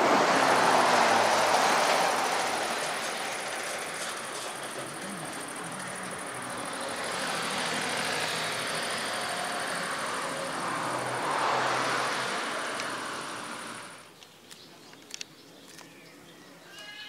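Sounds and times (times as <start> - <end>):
vehicle passing by: 0.0 - 14.1.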